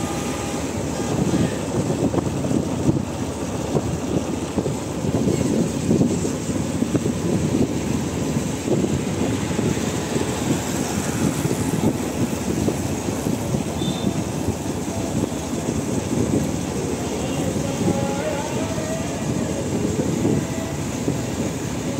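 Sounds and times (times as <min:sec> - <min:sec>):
motorcycle engine rumbling: 0:00.0 - 0:21.9
road and air noise: 0:00.0 - 0:21.9.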